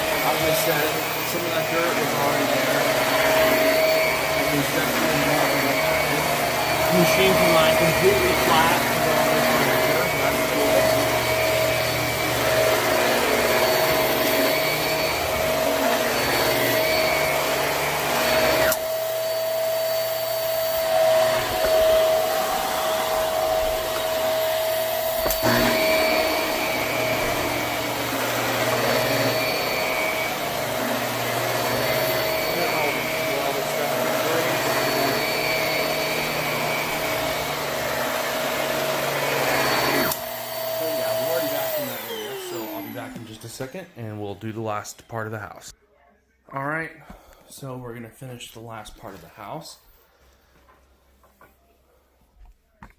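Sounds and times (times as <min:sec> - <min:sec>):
vacuum cleaner running on carpet: 0:00.0 - 0:43.8.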